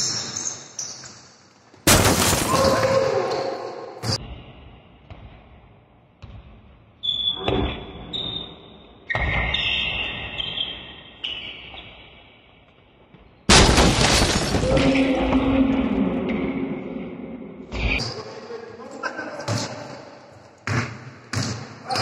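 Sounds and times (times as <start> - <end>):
basketball bouncing in echoing hall: 0.0 - 13.5, 14.6 - 22.0.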